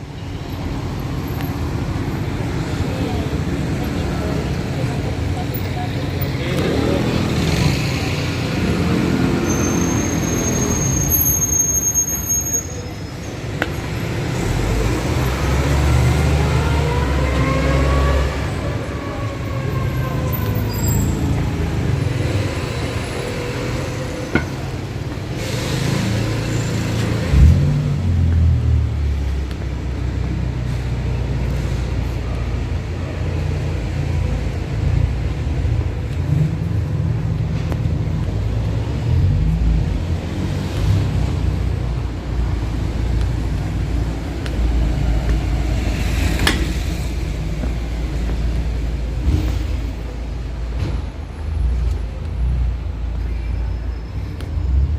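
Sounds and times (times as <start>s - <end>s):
street traffic engines rumbling: 0.0s - 54.9s.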